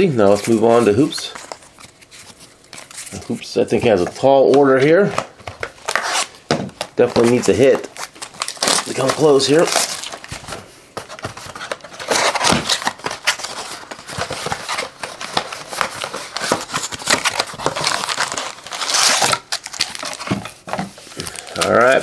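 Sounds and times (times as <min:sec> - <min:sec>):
plastic wrappers crinkling and tearing: 0:03.9 - 0:22.0.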